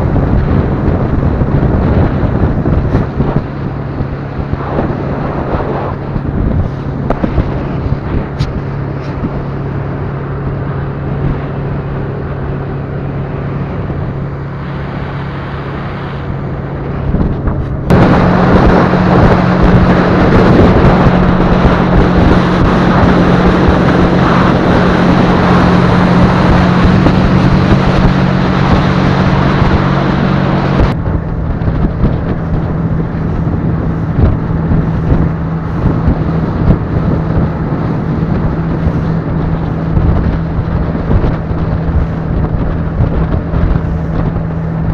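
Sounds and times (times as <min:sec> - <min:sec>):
boat engine running: 0:00.0 - 0:44.9
loud rushing noise: 0:00.0 - 0:44.9
water noise: 0:00.0 - 0:44.9
wind: 0:00.0 - 0:44.9.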